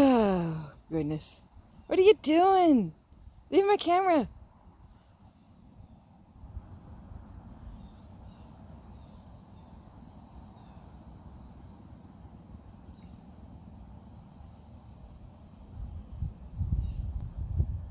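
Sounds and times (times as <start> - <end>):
faint high hiss: 0.0 - 17.9.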